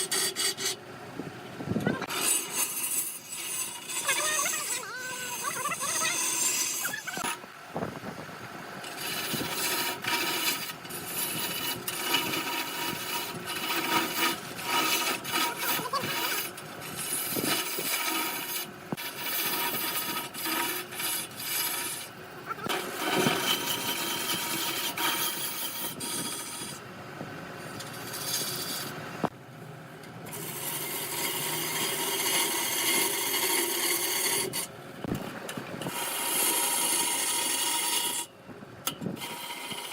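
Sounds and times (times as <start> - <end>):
lathe tool shaving wood: 1.9 - 7.5, 8.5 - 26.9, 27.5 - 29.4, 30.3 - 38.3, 39.2 - 39.9.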